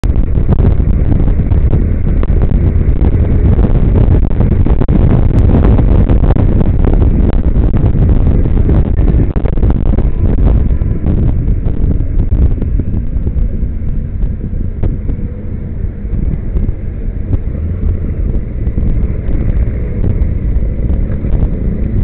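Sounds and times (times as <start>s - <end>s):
motorcycle engine and road rumble: 0.0s - 22.0s
wind buffeting microphone: 0.0s - 22.0s.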